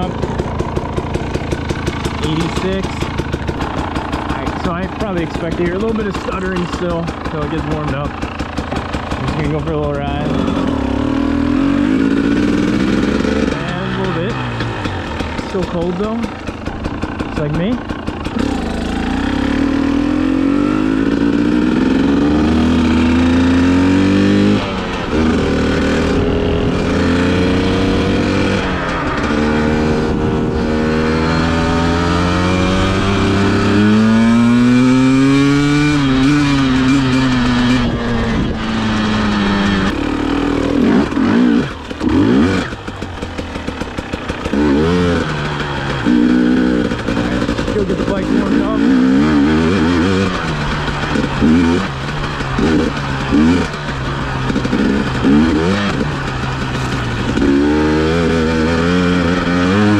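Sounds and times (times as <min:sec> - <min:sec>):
dirt bike engine accelerating: 0:00.0 - 0:59.9.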